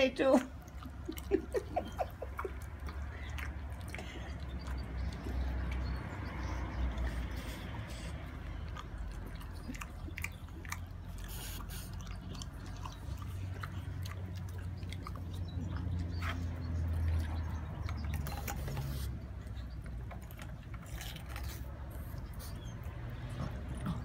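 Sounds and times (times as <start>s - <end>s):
dog chewing: 0.4s - 24.0s.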